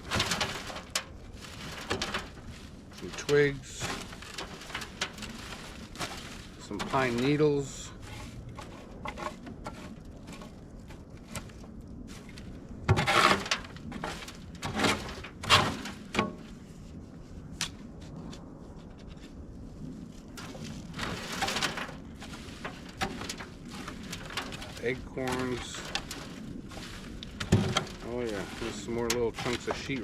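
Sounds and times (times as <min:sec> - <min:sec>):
compost rustling through screen: 0:00.0 - 0:30.0.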